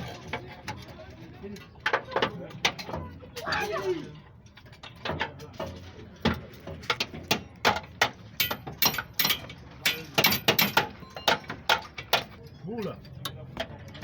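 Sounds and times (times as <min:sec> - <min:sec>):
metal tools clicking and knocking: 0:00.0 - 0:14.0.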